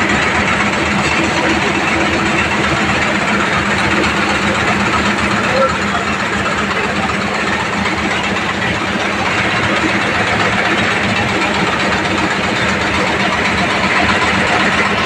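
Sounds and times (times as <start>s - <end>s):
crusher machinery droning: 0.0s - 15.0s.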